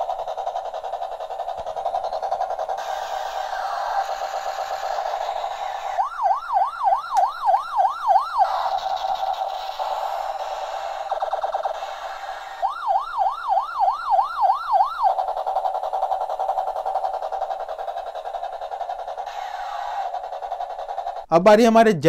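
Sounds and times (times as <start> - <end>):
electronic wailing siren: 0.0 - 21.3.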